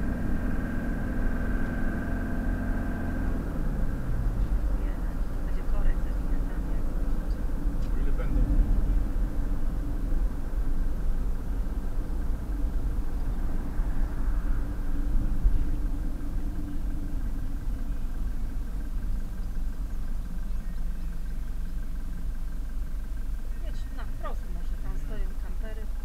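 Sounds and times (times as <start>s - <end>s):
engine and tyre rumble in cabin: 0.0s - 26.0s
faint engine hum: 0.0s - 26.0s.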